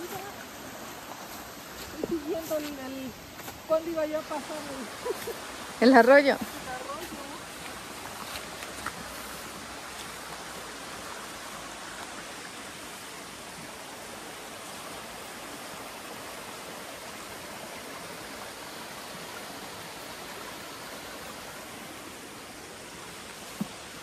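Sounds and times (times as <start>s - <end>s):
creek water running over stones: 0.0s - 24.0s.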